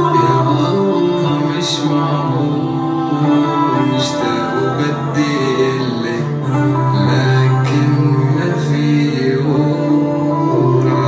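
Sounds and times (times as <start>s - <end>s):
instrumental music backing: 0.0s - 11.0s
man singing: 0.0s - 11.0s.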